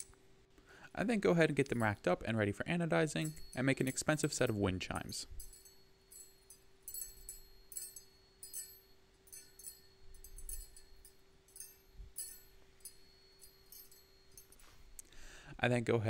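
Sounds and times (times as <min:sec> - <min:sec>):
metal handles clinking: 0:01.5 - 0:14.9.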